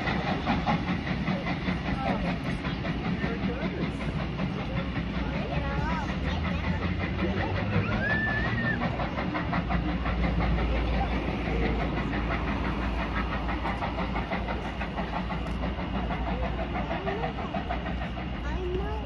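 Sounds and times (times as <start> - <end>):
steam train pulling away: 0.0 - 19.0.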